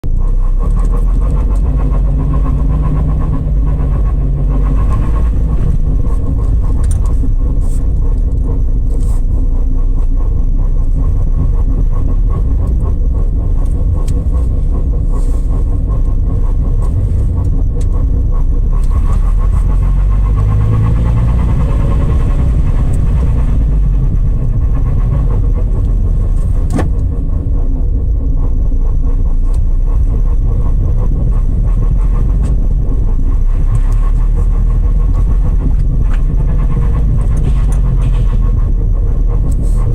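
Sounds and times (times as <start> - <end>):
vehicle engine low rumble: 0.0 - 39.9.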